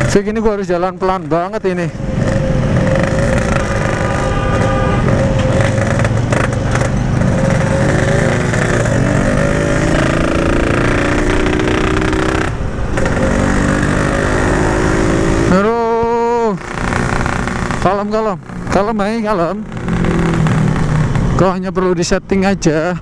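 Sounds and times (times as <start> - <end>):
two-stroke motorcycle engine running: 0.0 - 21.6.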